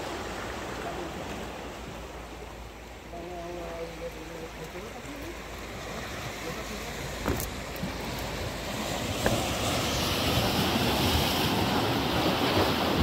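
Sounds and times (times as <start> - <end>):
waves washing against rocky shore: 0.0 - 13.0.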